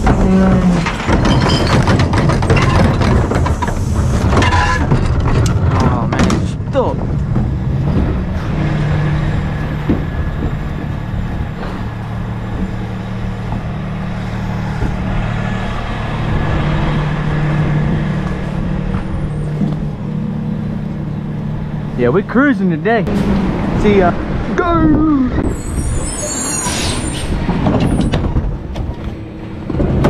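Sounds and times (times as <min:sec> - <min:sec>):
truck engine running: 0:00.0 - 0:24.7, 0:27.4 - 0:30.0
road noise: 0:00.0 - 0:30.0.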